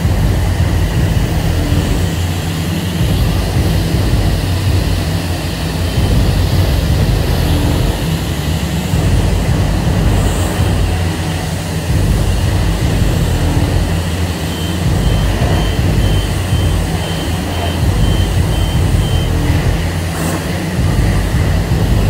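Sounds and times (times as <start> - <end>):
low rumble: 0.0 - 20.2.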